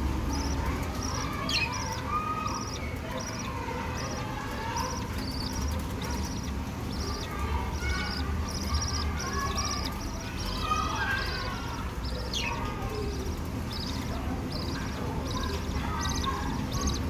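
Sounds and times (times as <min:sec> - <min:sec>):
budgerigars chirping and warbling: 0:00.0 - 0:17.0.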